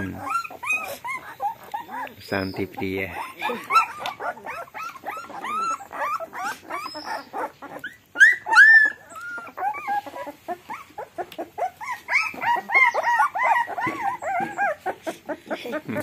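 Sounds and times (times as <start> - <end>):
puppies whining and squealing: 0.0 - 16.0.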